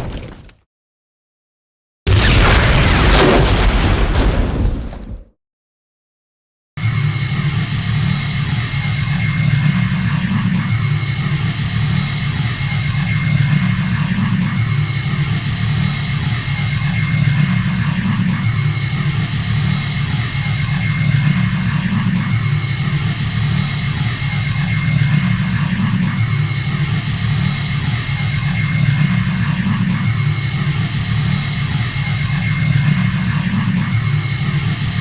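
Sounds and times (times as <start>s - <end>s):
spaceship engines humming and whining: 6.8s - 35.0s.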